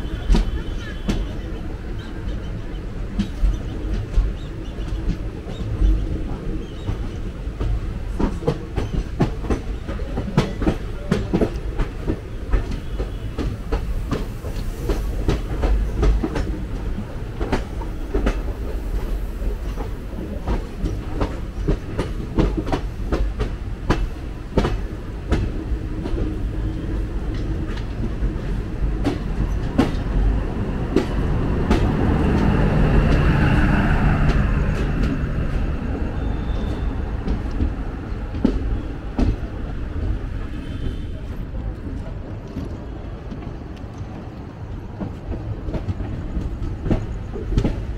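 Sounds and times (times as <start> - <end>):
train coaches rumbling past: 0.0 - 47.9
wheels clacking over rail joints: 2.5 - 47.9.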